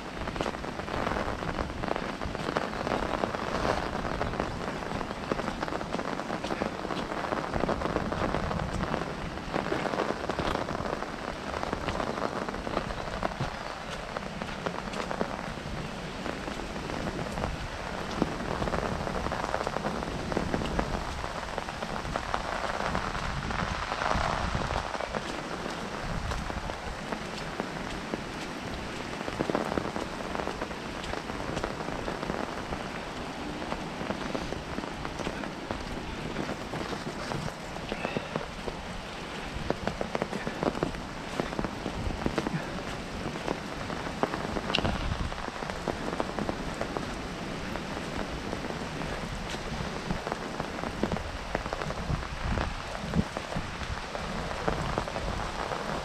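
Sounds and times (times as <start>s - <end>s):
rain falling on an umbrella: 0.0s - 56.0s.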